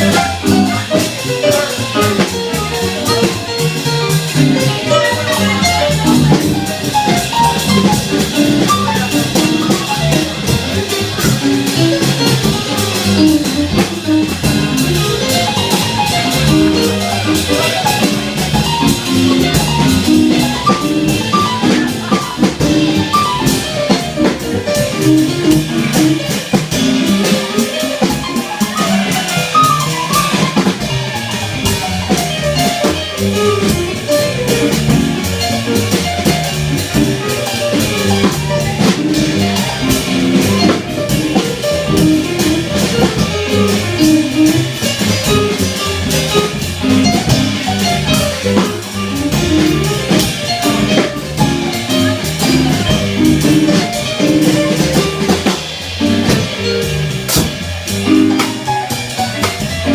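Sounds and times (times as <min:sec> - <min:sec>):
drum kit with cymbal: 0:00.0 - 0:59.9
jazz quartet playing: 0:00.0 - 0:59.9.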